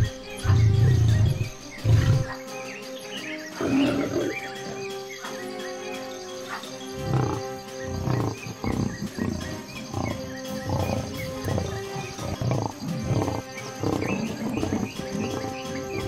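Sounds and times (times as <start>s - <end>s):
lion growling: 0.0s - 2.5s, 3.6s - 5.4s, 6.5s - 16.0s
background music with held tones: 0.0s - 16.0s.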